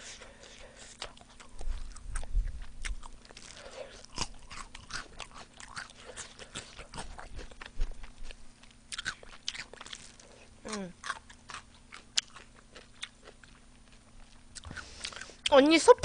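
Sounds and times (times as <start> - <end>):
crunchy chewing of fried chicken: 0.0 - 15.5.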